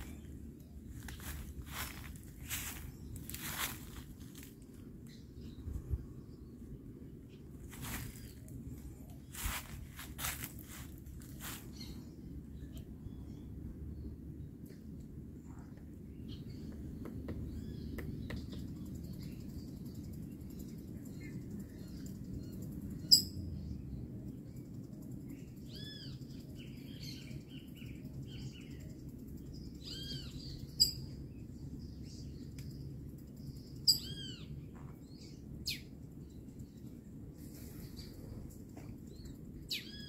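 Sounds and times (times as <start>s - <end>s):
birds chirping: 0.0s - 23.4s, 24.6s - 40.0s
steady low rumble: 0.0s - 40.0s.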